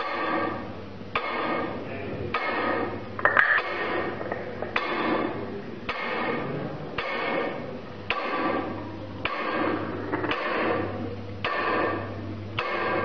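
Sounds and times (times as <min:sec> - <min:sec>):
striker tapping resonant object: 0:00.0 - 0:06.4, 0:07.0 - 0:13.0
low machine hum: 0:00.0 - 0:13.0.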